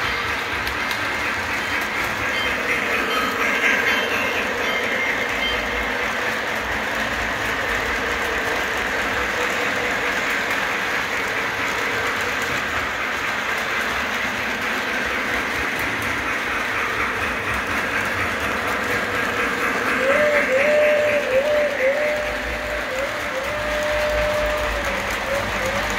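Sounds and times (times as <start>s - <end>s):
model train wheels on rail: 0.0s - 25.9s.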